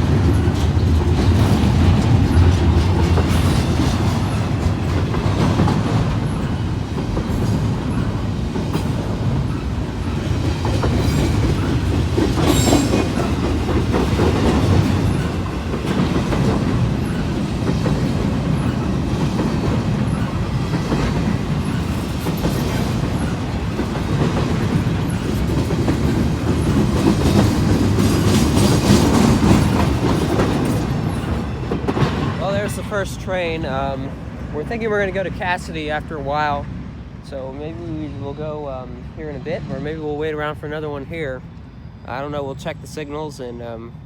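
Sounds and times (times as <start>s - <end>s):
wheels clacking over rail joints: 0.0s - 36.7s
freight train rumble: 0.0s - 44.0s.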